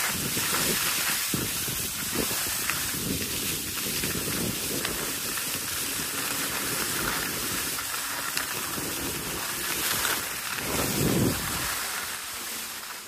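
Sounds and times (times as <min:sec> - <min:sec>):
low fluttering rumble: 0:00.0 - 0:12.9
skis gliding over snow: 0:00.0 - 0:13.0.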